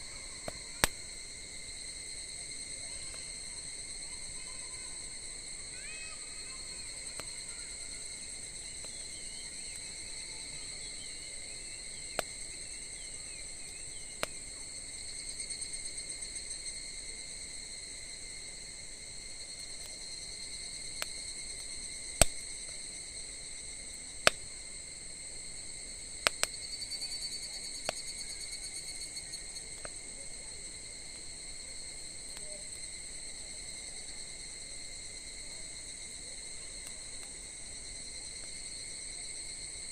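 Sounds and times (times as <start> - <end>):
campfire crackling pops: 0.0 - 5.6, 6.4 - 16.4, 18.0 - 39.9
crickets chirring: 0.0 - 39.9.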